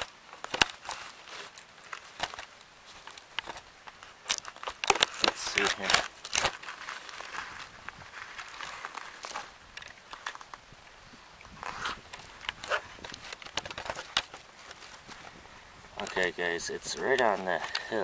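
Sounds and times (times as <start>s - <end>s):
footsteps on grass and dry leaves: 0.0s - 18.0s.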